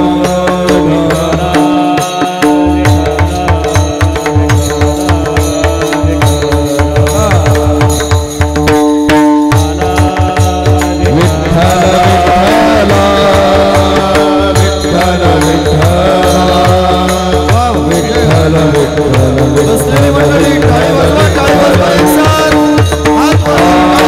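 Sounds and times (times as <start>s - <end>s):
driving drum beat: 0.0s - 24.0s
person singing: 0.0s - 24.0s.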